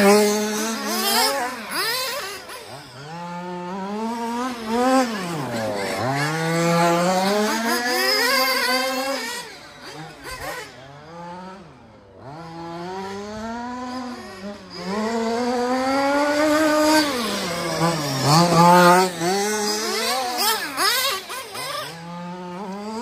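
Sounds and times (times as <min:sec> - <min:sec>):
rc car engine revving: 0:00.0 - 0:23.0.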